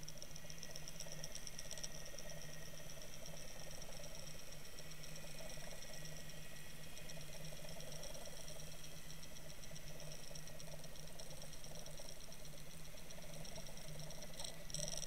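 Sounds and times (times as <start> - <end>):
underwater rattle with hum and whine: 0.0 - 15.0.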